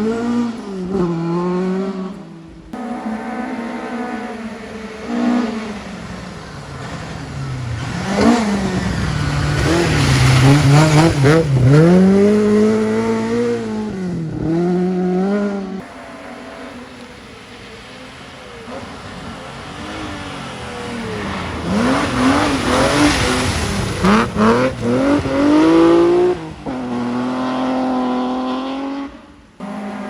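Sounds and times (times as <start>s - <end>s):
distant car engine: 0.0s - 30.0s
rally car engine revving: 0.0s - 30.0s.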